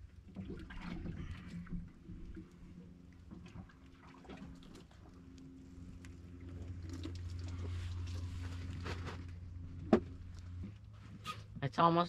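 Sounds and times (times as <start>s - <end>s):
steady low hum: 0.0s - 12.0s
water lapping against boat hull: 0.0s - 12.0s.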